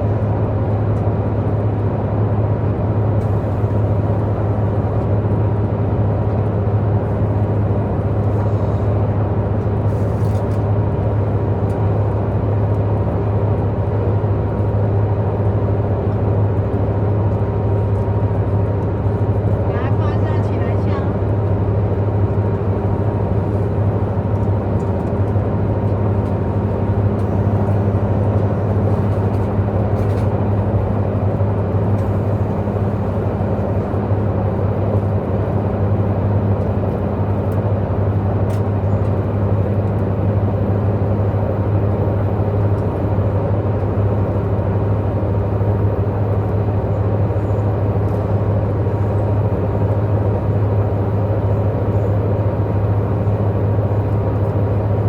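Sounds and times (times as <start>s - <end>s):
deep train engine hum: 0.0s - 55.0s.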